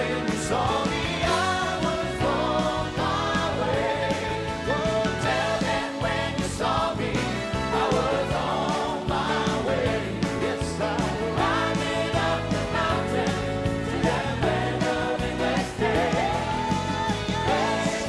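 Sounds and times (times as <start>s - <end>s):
choir singing gospel with band: 0.0s - 18.0s.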